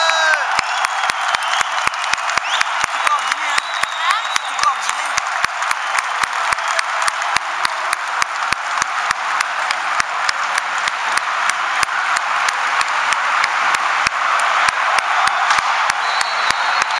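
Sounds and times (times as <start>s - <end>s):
crowd roaring: 0.0s - 16.9s
fast regular sharp claps: 0.0s - 16.9s.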